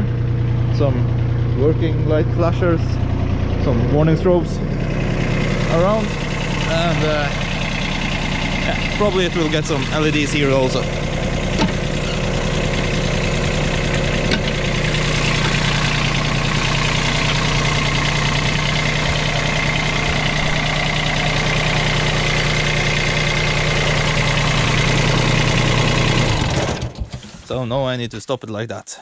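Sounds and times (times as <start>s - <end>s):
high drive belt whine: 0.0s - 27.4s
diesel engine idling: 0.0s - 28.0s.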